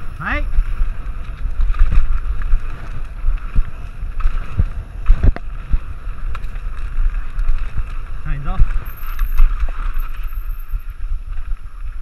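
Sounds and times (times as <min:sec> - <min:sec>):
bike rattling: 0:00.0 - 0:12.0
tyres rolling on dirt: 0:00.0 - 0:12.0
wind buffeting microphone: 0:00.0 - 0:12.0.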